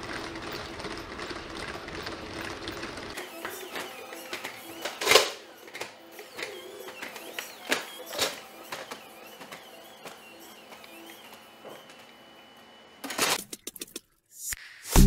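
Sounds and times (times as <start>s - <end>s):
hydraulic actuators whining: 0.0s - 13.4s.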